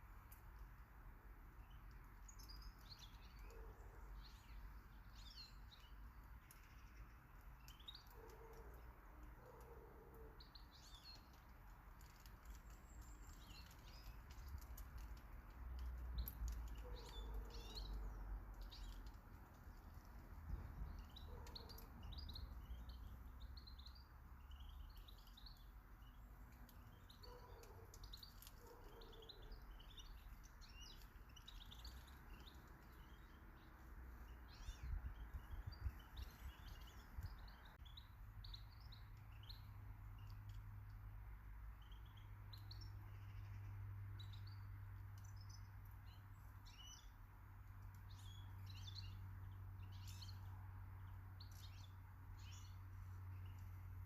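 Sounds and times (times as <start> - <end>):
small birds chirping faintly: 0.0 - 54.0.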